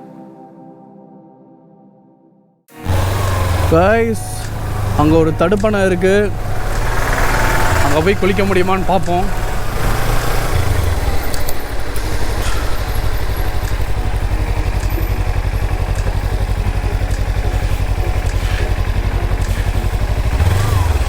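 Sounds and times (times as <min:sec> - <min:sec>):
motorcycle engine running: 0:02.8 - 0:21.0.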